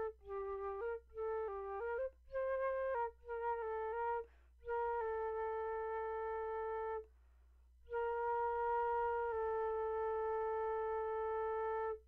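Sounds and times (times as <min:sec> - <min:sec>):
slow flute melody: 0:00.0 - 0:07.1, 0:07.9 - 0:12.0.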